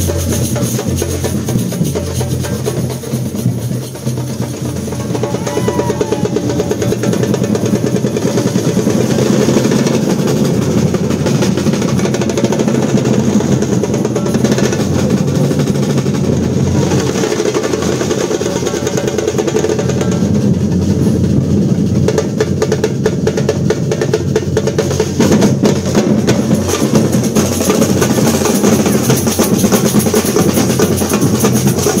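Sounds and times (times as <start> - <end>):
percussion group drumming: 0.0 - 32.0.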